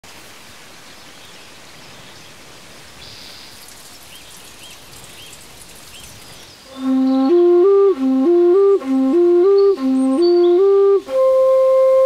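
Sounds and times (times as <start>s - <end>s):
water trickling and dripping: 0.0s - 11.3s.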